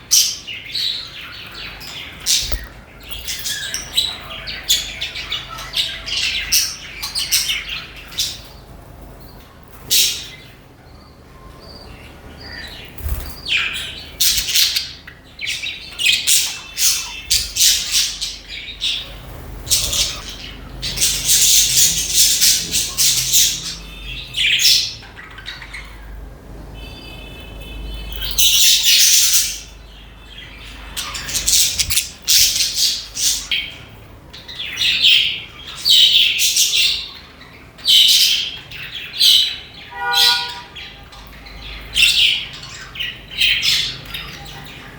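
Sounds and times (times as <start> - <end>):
budgerigars chattering and squawking: 0.0 - 8.8, 9.7 - 10.7, 11.6 - 26.2, 28.0 - 44.9.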